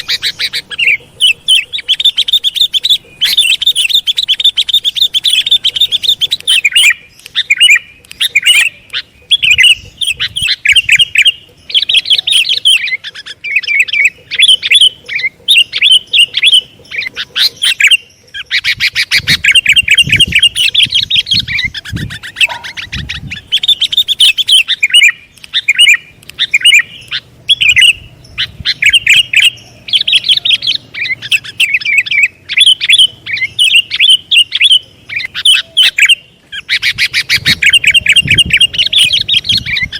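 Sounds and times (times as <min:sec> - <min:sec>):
bird chirping: 0:00.0 - 0:39.9
bird trill: 0:00.0 - 0:39.9.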